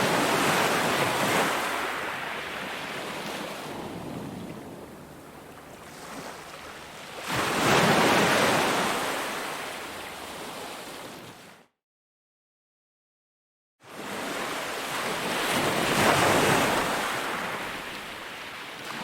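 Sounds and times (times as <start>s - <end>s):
ocean waves on beach: 0.0s - 11.6s, 13.8s - 19.0s.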